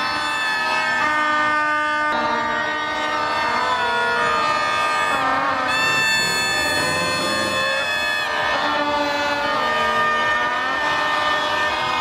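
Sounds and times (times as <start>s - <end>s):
crowd blowing plastic horns: 0.0s - 12.0s.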